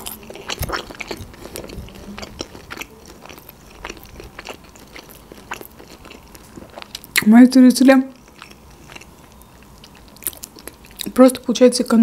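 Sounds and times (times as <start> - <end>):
person chewing food: 0.0 - 7.3, 8.1 - 11.2.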